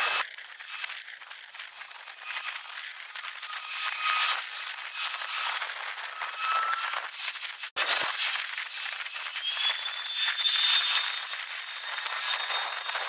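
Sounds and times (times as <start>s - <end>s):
faint whine: 0.0s - 7.7s, 8.3s - 13.0s.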